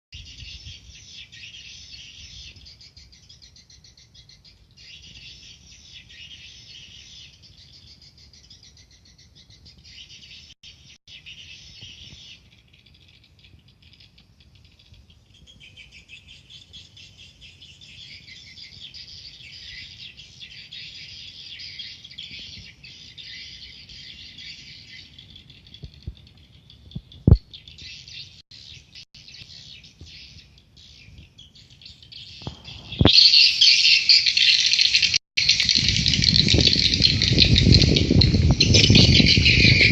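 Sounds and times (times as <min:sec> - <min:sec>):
birds twittering: 0:00.2 - 0:39.9.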